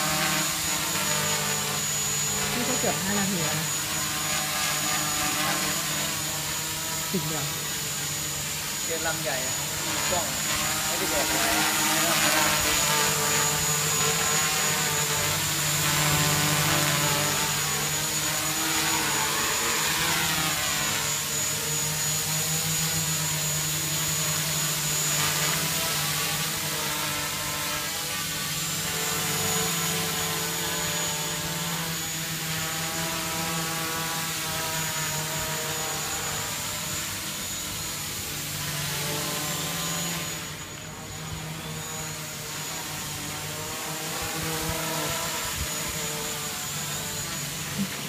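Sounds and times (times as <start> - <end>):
drone propellers buzzing: 0.0 - 48.0.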